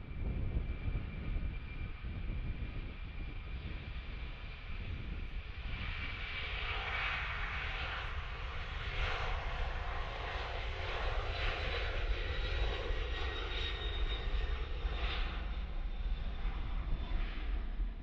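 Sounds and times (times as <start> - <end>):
jet engines roaring: 0.3 - 18.0.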